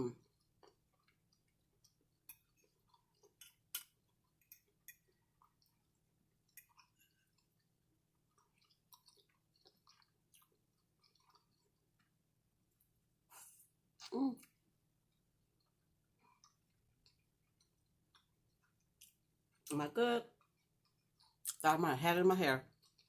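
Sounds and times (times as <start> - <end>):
chewing and wet mouth sounds: 0.0 - 21.8, 22.6 - 23.0.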